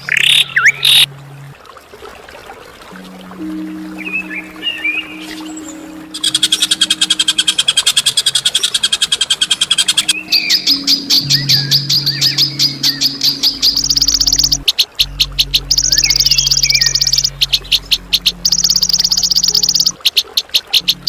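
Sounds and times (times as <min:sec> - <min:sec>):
low background music: 0:00.2 - 0:01.9, 0:02.9 - 0:20.1, 0:20.7 - 0:21.0
rapid bird chirping: 0:04.0 - 0:21.0
songbird harsh trills: 0:04.0 - 0:21.0.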